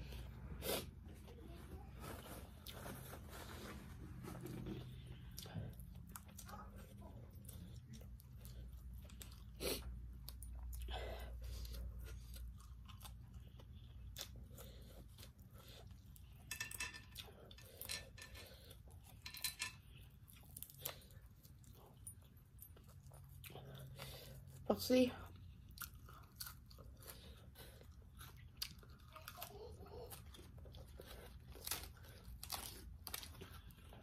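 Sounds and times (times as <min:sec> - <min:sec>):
chewing: 0:00.0 - 0:34.0.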